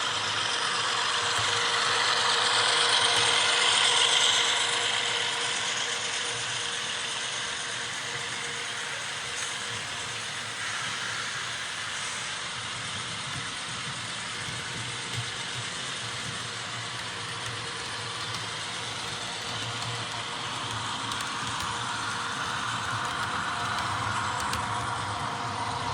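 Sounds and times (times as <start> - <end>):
model train wheels rolling: 0.0 - 25.9.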